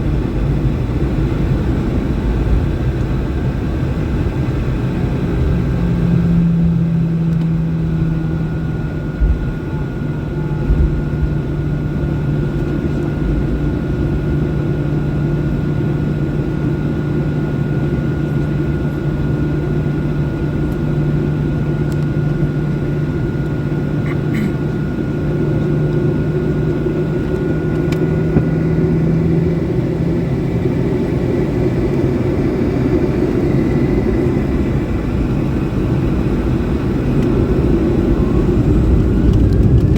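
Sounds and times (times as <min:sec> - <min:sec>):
airliner cabin jet engine drone: 0:00.0 - 0:39.9.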